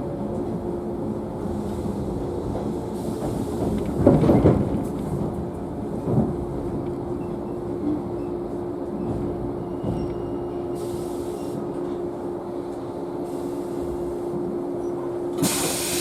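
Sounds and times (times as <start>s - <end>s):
train car hum and rumble: 0.0s - 16.0s.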